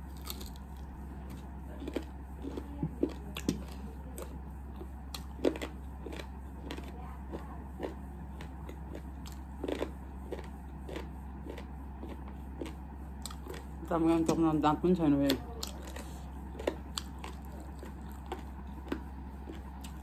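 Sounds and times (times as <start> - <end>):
person chewing food: 0.0 - 14.4, 15.3 - 20.0
low hum: 0.0 - 20.0.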